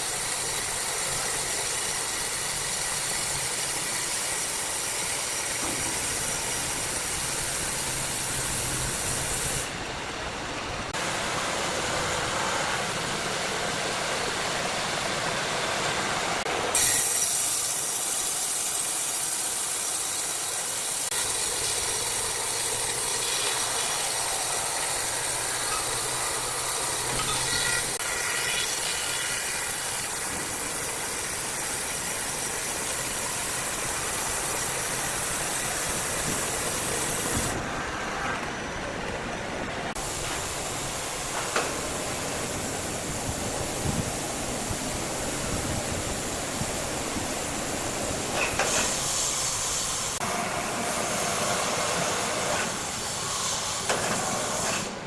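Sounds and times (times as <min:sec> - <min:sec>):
sawmill saw hissing: 0:00.0 - 0:09.8, 0:11.0 - 0:37.6, 0:39.9 - 0:55.0.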